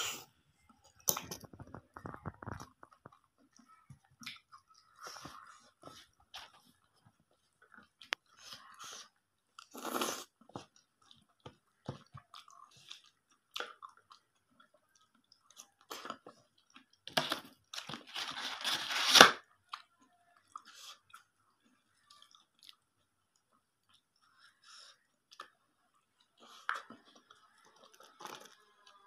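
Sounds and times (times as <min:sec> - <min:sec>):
chewing crunchy food: 0:00.1 - 0:18.2, 0:19.4 - 0:29.0.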